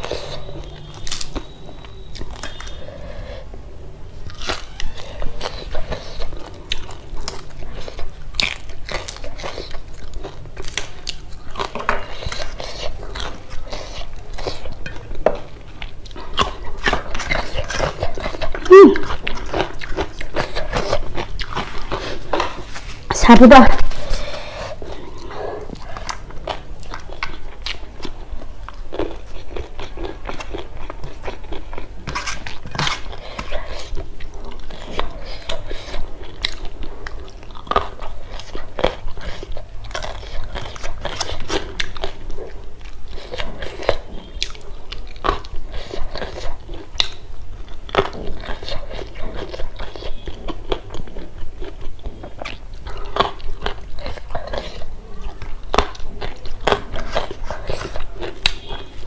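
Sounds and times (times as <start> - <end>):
person chewing food: 0.0 - 23.2, 23.8 - 59.0.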